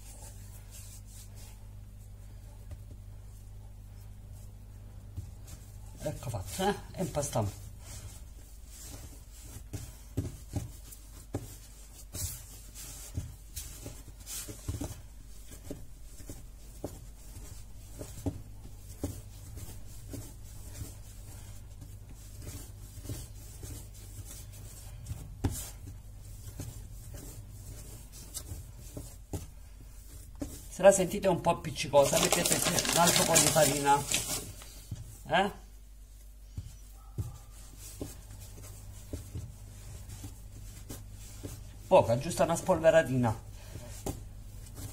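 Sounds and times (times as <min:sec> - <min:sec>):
dough being kneaded by hand: 0:00.0 - 0:44.9.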